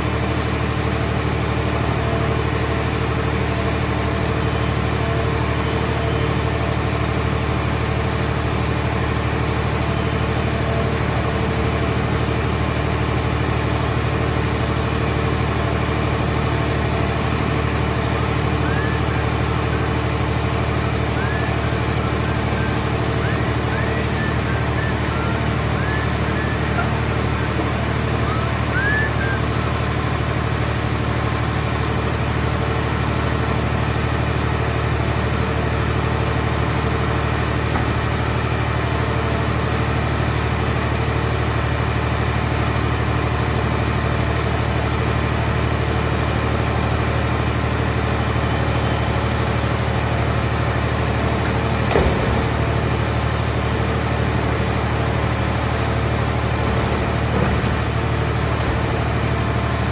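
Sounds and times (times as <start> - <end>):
heavy engine idling: 0.0 - 59.9.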